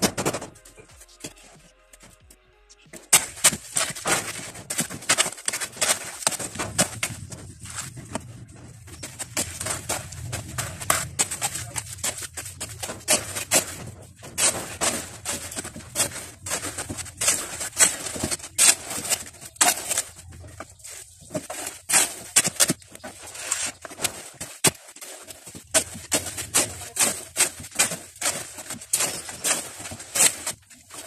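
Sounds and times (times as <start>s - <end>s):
shovel scraping through gravel: 3.2s - 31.0s.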